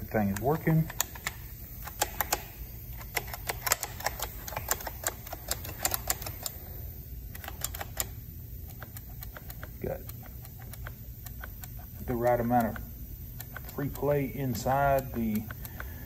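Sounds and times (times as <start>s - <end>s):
throttle linkage clicking: 0.0s - 6.6s, 7.3s - 16.0s.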